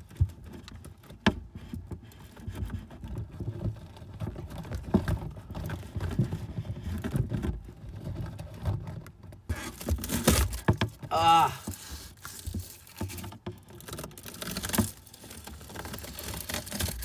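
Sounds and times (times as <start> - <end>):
rod tapping and scraping in duct: 0.0 - 17.0.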